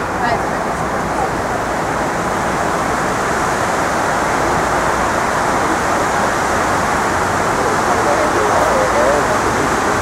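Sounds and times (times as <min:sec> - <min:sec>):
water rushing down waterfall: 0:00.0 - 0:10.0.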